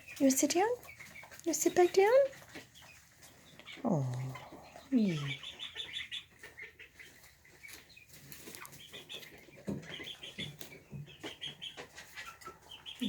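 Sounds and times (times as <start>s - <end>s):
chickens chirping and clucking: 0.0s - 13.0s.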